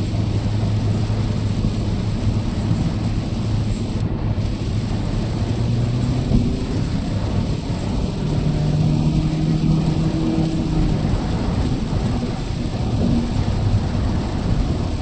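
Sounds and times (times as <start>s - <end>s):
car engine and road drone: 0.0s - 15.0s
rain on car: 0.0s - 15.0s.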